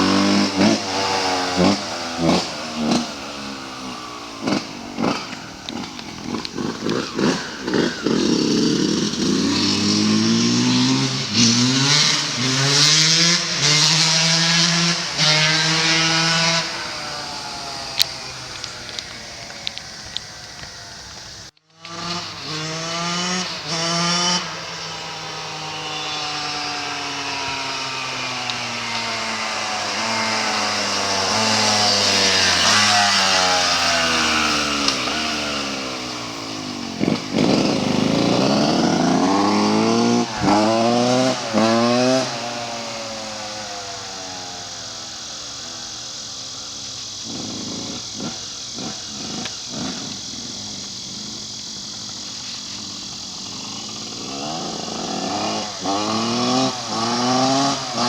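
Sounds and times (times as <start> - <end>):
two-stroke engine revving: 0.0 - 58.0.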